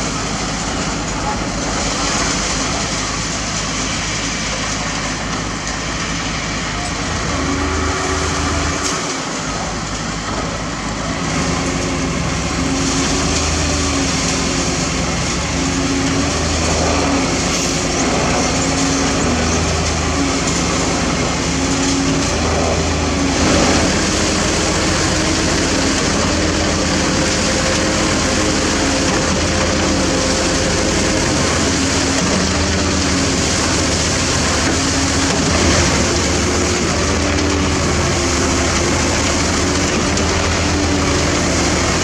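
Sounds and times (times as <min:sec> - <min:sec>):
diesel construction machinery running: 0:00.0 - 0:42.0.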